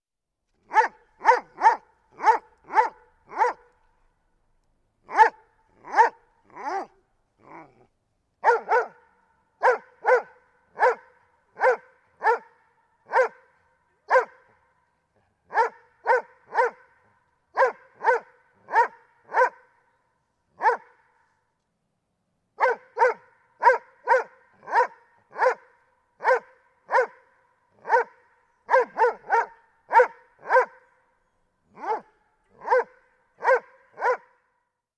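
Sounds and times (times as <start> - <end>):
dog barking: 0.6 - 3.8, 5.0 - 7.8, 8.4 - 19.9, 20.6 - 21.2, 22.6 - 31.1, 31.7 - 34.5.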